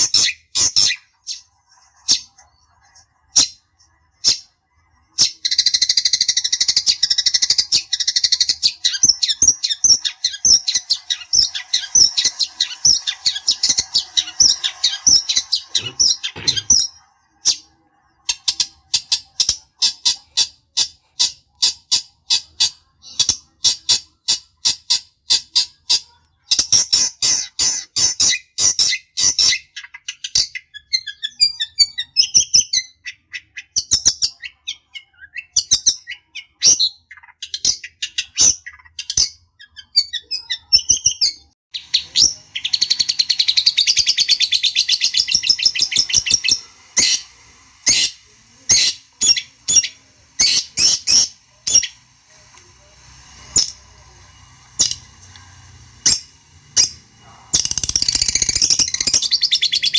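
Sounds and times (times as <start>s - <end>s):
shrike calling and chattering: 0.0s - 31.1s, 41.8s - 59.9s.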